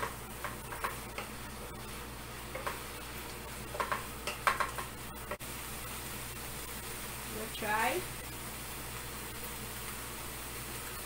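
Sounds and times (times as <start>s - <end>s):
low sizzle: 0.0s - 11.0s.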